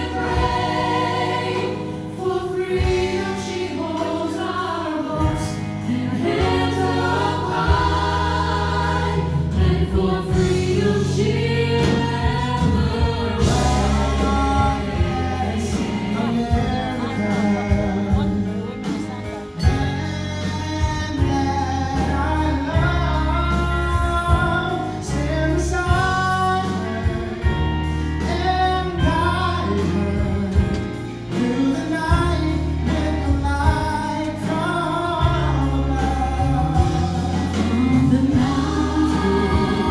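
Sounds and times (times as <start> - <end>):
band with bass and drums: 0.0 - 39.9
choir singing gospel song: 0.0 - 39.9.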